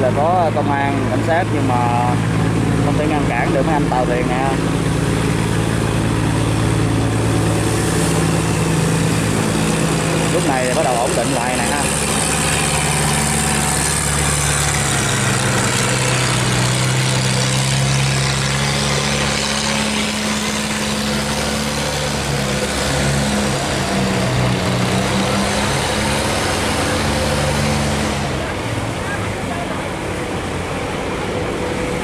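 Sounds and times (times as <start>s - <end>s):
boat engines humming: 0.0s - 32.0s.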